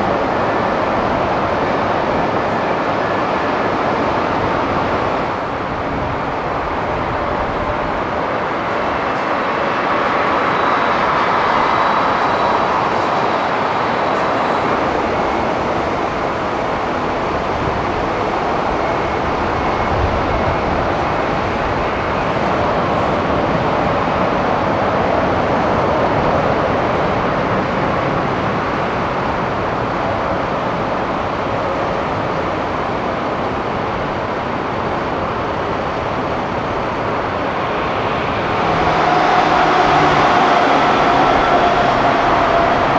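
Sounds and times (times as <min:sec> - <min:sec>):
jet aircraft drone: 0:00.0 - 0:42.9.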